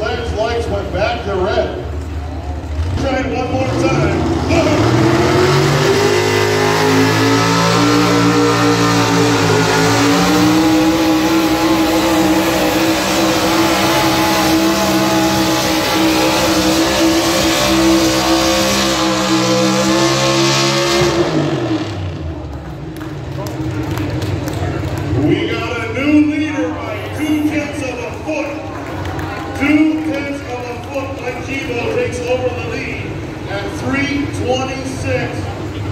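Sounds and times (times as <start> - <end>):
truck engine at full throttle: 0.0 - 35.9.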